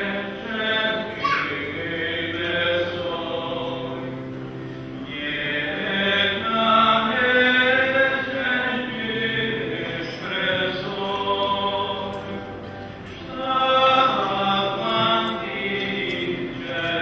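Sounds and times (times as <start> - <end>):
voices singing a slow hymn: 0.0 - 17.0.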